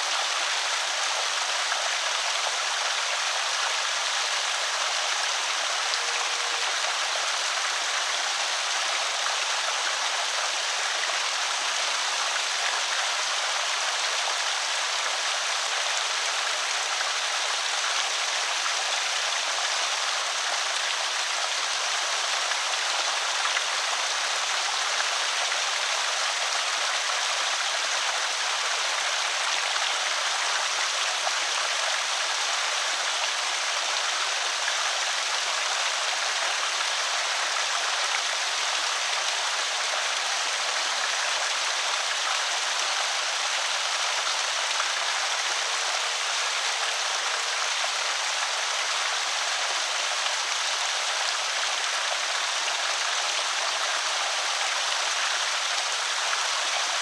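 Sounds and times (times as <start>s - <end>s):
water pouring over spillway: 0.0s - 57.0s.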